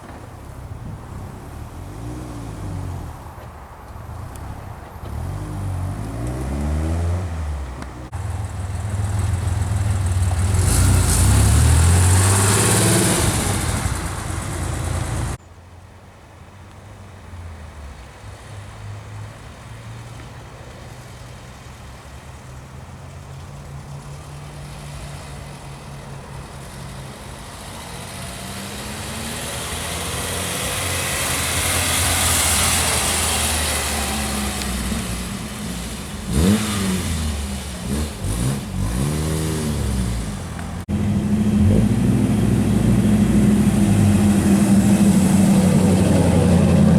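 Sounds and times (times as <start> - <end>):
car engines driving past: 0.0 - 15.4, 17.4 - 46.9.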